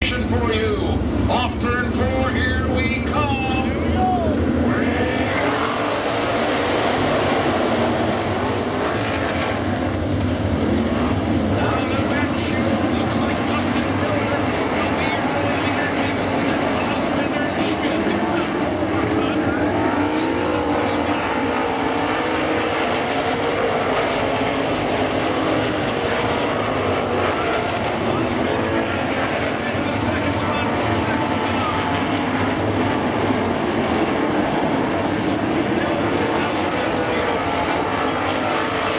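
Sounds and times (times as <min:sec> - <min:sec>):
race car engines roaring: 0:00.0 - 0:38.9.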